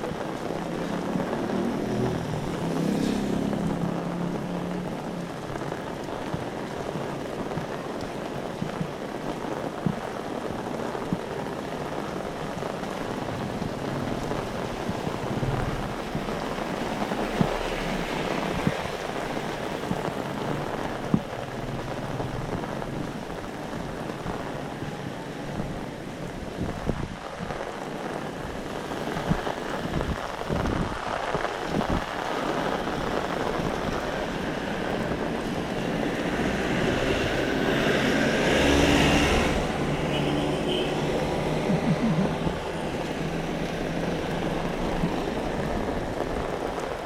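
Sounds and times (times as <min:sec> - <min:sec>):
heavy rain pouring on street: 0:00.0 - 0:47.0.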